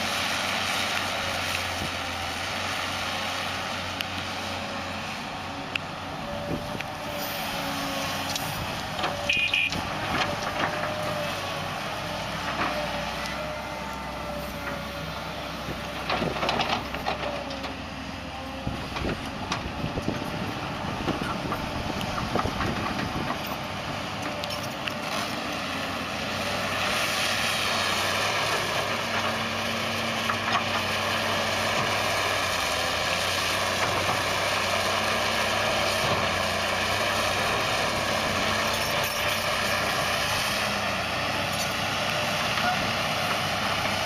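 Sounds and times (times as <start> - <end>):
heavy machinery diesel engines: 0.0 - 44.0.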